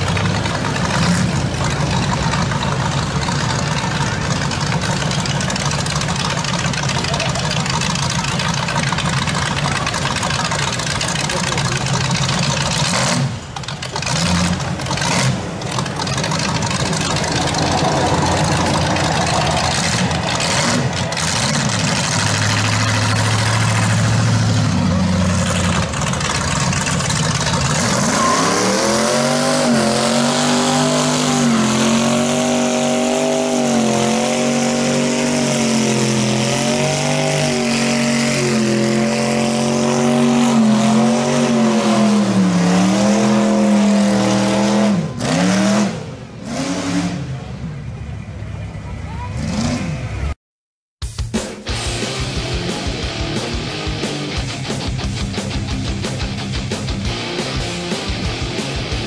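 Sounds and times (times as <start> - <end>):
truck engine revving: 0.0 - 50.4, 51.9 - 59.0.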